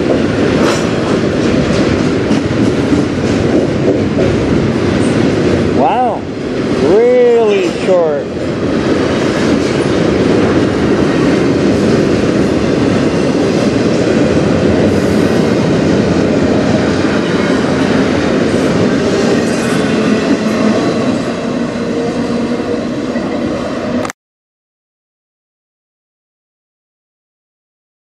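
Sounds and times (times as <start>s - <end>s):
train wheels rumbling on rails: 0.0s - 24.1s.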